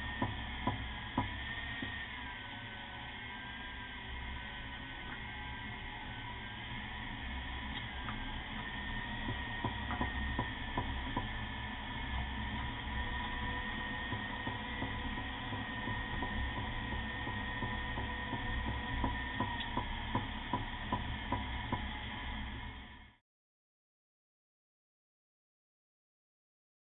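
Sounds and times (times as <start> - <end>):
steady driving hum: 0.0 - 23.2.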